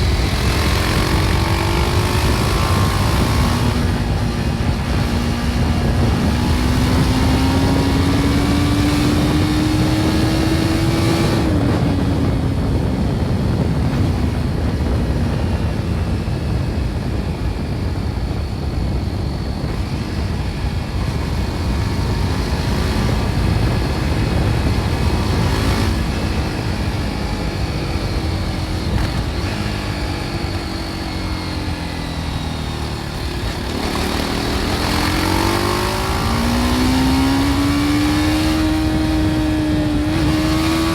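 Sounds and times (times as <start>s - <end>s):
motorcycle engine revving: 0.0s - 40.9s
wind rush: 0.0s - 40.9s.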